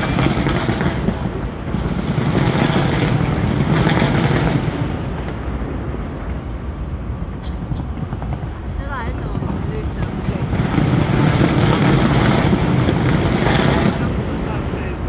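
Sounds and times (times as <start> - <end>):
fireworks bursting: 0.0 - 6.4, 7.2 - 15.0.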